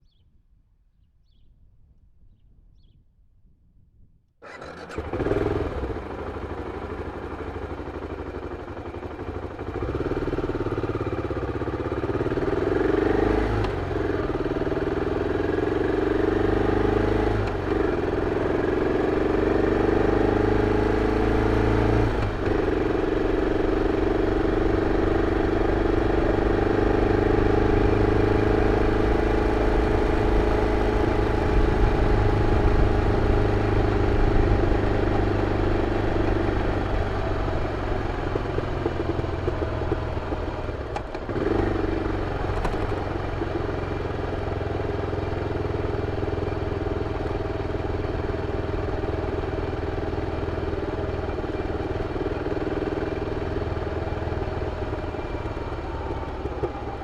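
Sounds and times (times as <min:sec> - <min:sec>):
motorcycle engine accelerating: 0:04.4 - 0:57.0.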